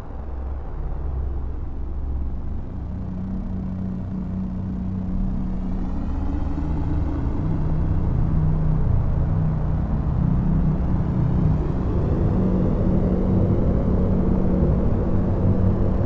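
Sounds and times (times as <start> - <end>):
synthesized spaceship drone: 0.0 - 16.0.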